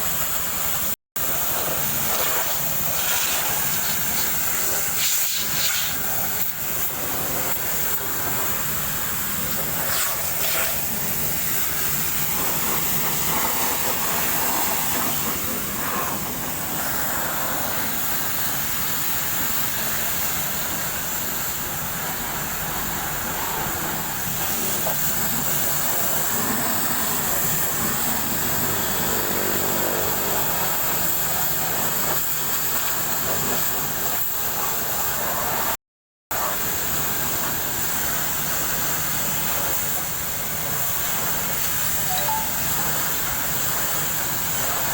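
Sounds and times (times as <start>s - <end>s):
high-pressure water jet spraying: 0.0s - 44.9s.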